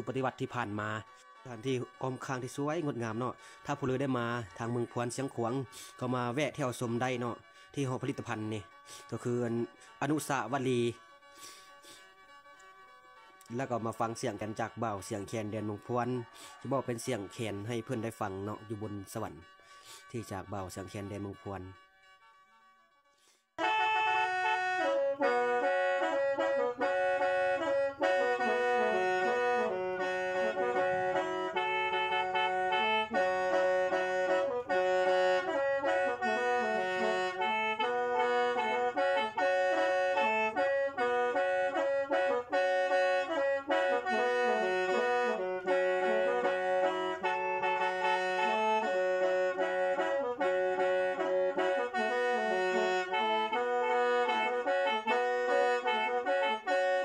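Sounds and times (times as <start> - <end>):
mouth organ melody over drone: 0.0 - 22.2, 23.6 - 57.0.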